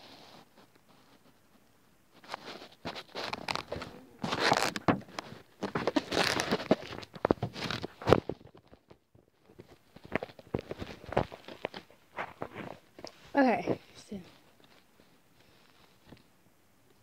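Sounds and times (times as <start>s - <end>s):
handling noise rustling and knocks: 2.2s - 16.3s.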